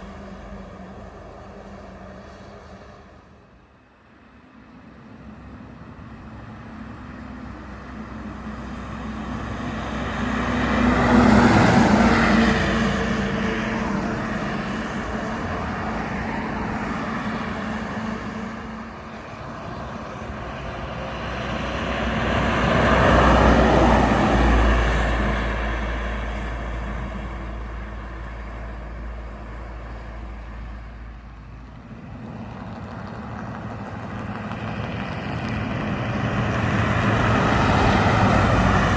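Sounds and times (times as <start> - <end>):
heavy trucks driving past: 0.0 - 38.9.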